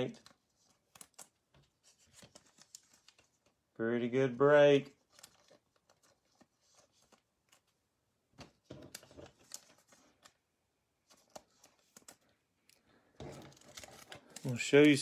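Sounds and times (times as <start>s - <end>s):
trading cards clicking and rustling: 0.0s - 3.6s, 4.9s - 7.8s, 8.4s - 10.4s, 11.0s - 15.0s.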